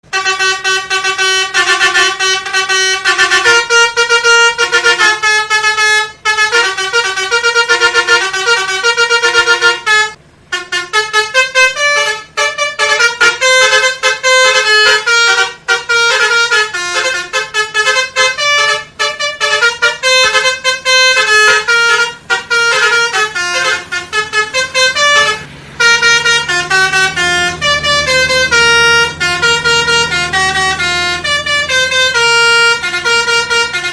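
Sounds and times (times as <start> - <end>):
musical bus horn: 0.0 - 33.9.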